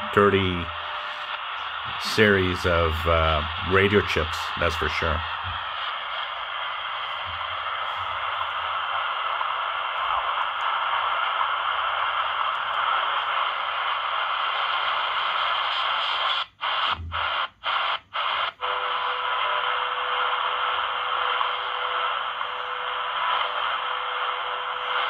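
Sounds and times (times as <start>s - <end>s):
faint steady radio tone: 0.0s - 25.0s
shortwave radio static hiss: 0.0s - 25.0s.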